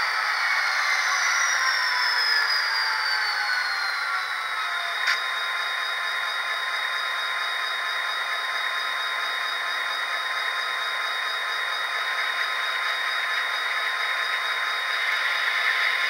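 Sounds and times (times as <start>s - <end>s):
diesel engine sound from small speaker: 0.0s - 16.0s.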